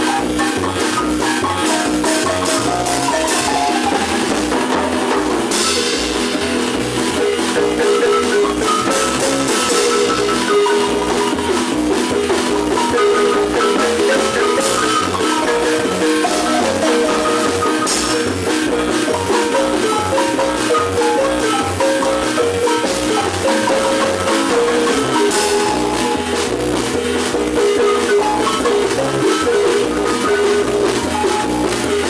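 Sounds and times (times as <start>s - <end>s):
low bass line: 0.0s - 32.0s
marimba playing dance music: 0.0s - 32.0s.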